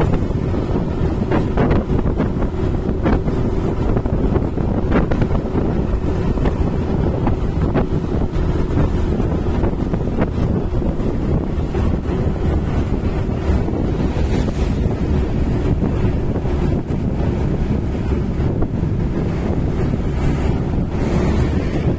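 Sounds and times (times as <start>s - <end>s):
wind noise on microphone: 0.0s - 21.9s.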